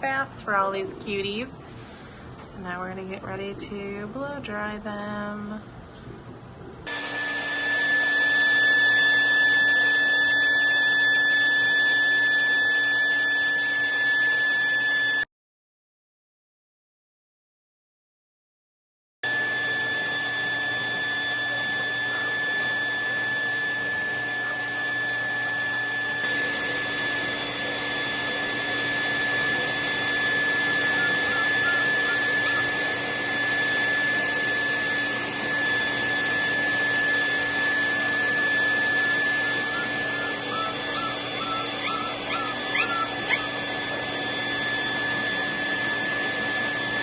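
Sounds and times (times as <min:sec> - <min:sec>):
pet blow dryer running: 0:00.0 - 0:01.9, 0:06.8 - 0:15.3, 0:19.2 - 0:47.0.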